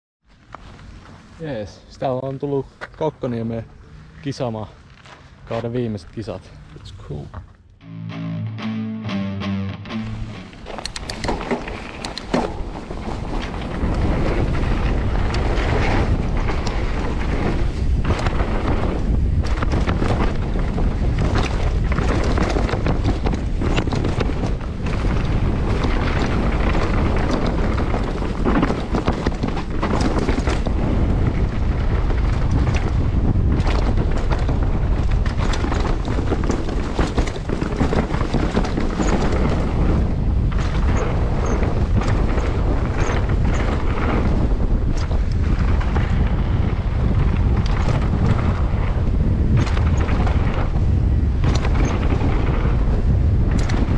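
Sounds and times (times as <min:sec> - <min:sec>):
tyres rumbling over dirt: 0:10.5 - 0:53.9
bike knocks and rattles: 0:10.6 - 0:53.9
wind buffeting microphone: 0:10.6 - 0:53.9.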